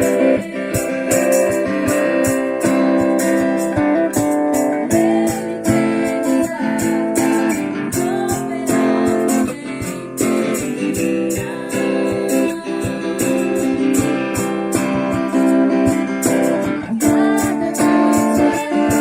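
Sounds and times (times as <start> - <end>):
guitar strummed: 0.0 - 19.0.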